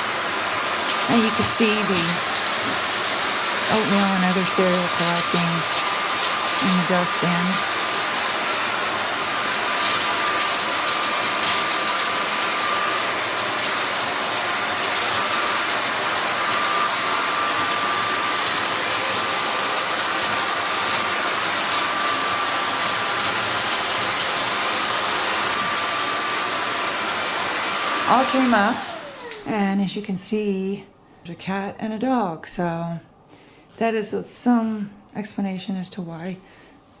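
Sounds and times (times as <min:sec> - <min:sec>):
cordless vacuum running: 0:00.0 - 0:30.2.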